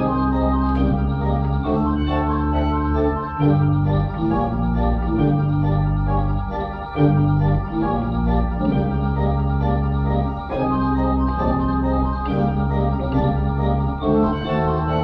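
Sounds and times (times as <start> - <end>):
pipe organ playing chords: 0.0 - 15.0.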